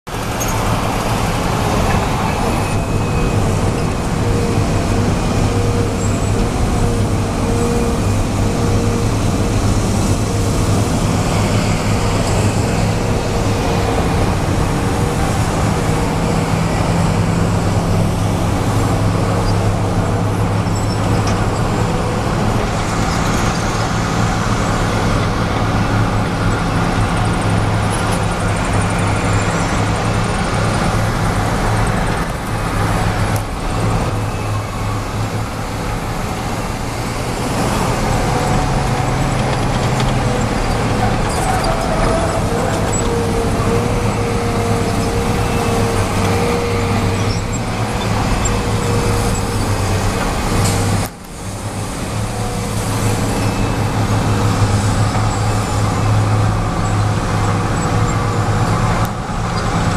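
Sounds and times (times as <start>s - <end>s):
diesel engines droning: 0.1s - 59.9s
road traffic passing: 0.1s - 59.9s.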